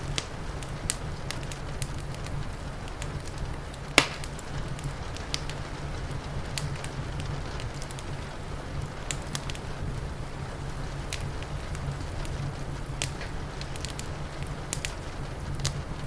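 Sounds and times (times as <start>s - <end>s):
rain hissing: 0.0s - 16.0s
wood fire crackling and popping: 0.0s - 16.0s.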